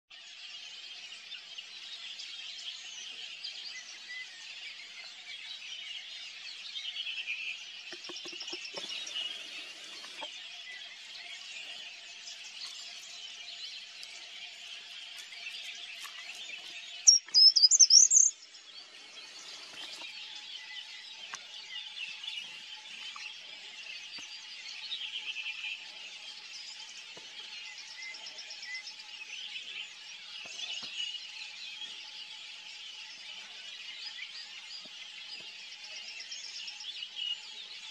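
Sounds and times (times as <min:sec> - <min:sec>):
birds singing and chirping: 0:00.1 - 0:37.9.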